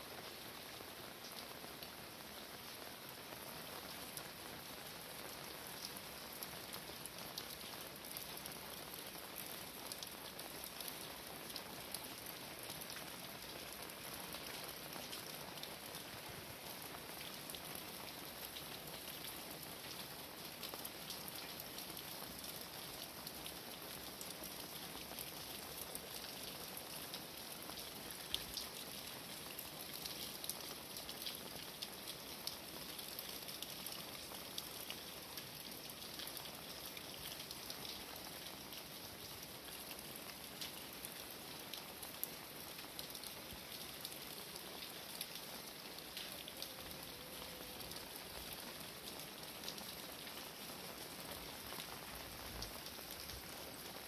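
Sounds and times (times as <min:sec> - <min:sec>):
raindrops ticking on surfaces: 0:00.0 - 0:54.0
steady rain hiss: 0:00.0 - 0:54.0.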